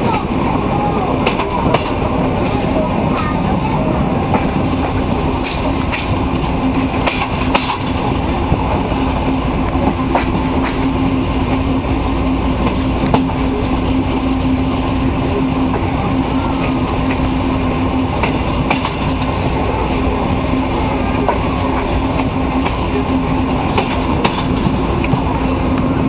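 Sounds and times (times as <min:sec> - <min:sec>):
train rumble: 0:00.0 - 0:26.0
wheels clacking on rail joints: 0:00.0 - 0:26.0.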